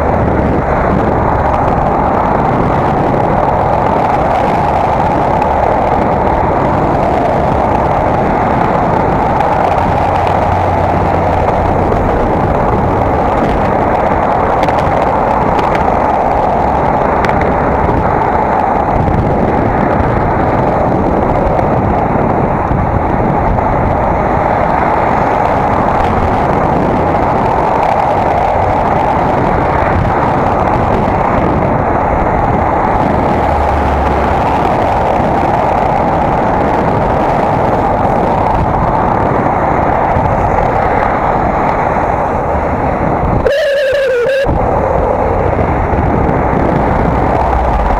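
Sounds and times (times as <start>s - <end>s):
wind rushing on microphone: 0.0s - 47.9s.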